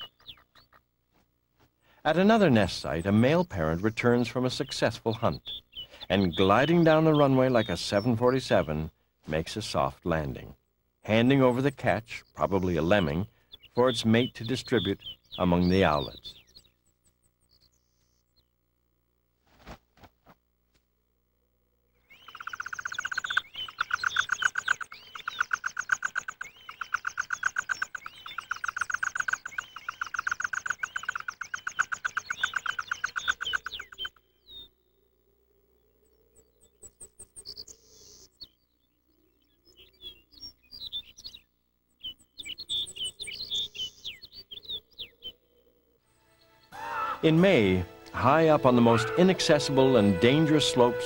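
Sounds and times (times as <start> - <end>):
birds chirping rapidly: 0.0 - 0.9, 1.8 - 18.6, 21.9 - 35.0, 35.7 - 51.0.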